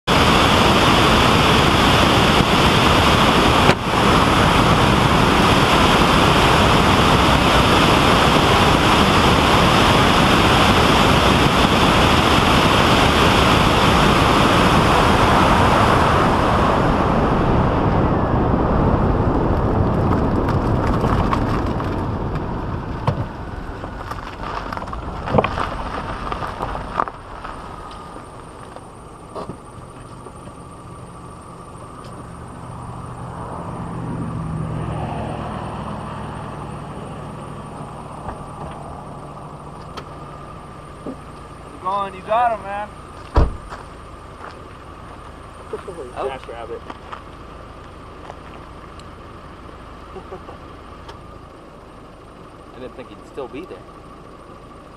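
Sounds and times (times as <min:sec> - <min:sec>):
vehicle road and wind noise: 0:00.0 - 0:54.9.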